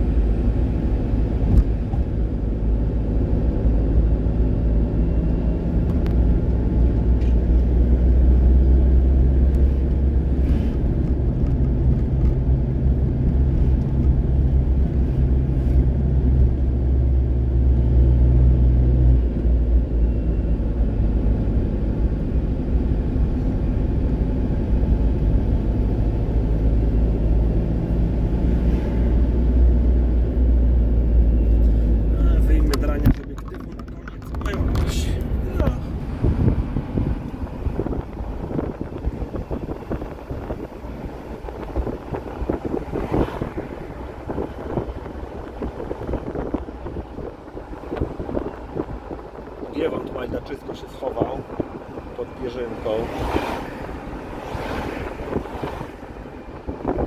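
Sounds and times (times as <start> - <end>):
engine hum: 0.0 - 57.0
vehicle road rumble: 0.0 - 57.0.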